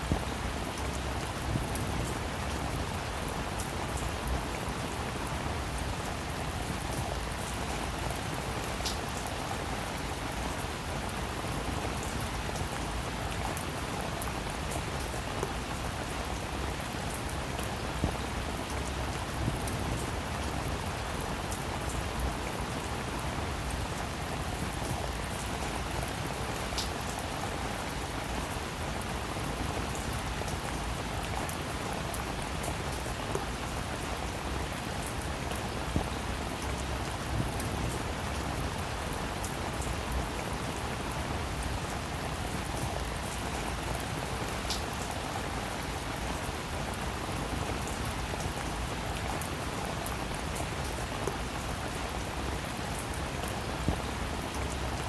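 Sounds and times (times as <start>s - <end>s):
louder raindrops: 0.0s - 55.0s
rain falling: 0.0s - 55.0s.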